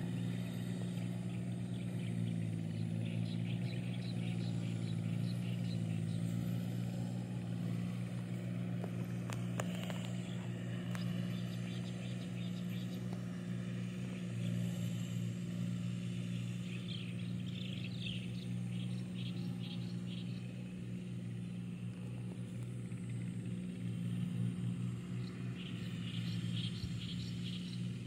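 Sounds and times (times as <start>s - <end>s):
birds chirping: 0.0s - 28.0s
distant tractor diesel engine: 0.0s - 28.0s.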